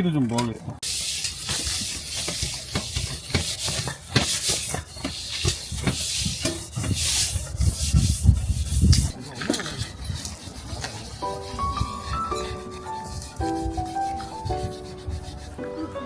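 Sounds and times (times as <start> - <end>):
rubbing and scraping: 0.8 - 16.0.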